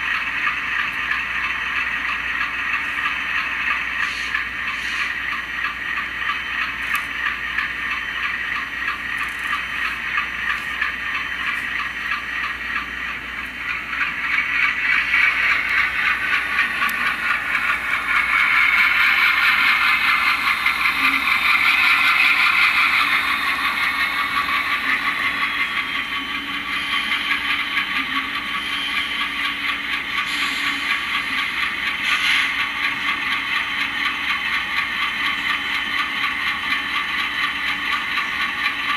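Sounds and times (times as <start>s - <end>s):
model locomotive diesel chugging: 0.0s - 38.9s.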